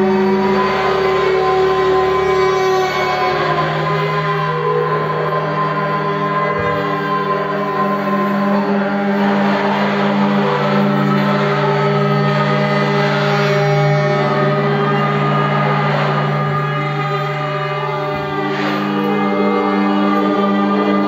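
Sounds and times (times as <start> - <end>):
orchestra sustained drone: 0.0 - 21.0.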